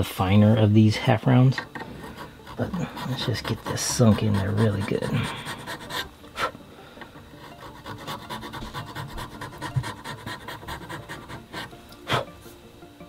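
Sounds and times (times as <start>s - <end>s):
needle file rasping in wood: 1.6s - 12.3s.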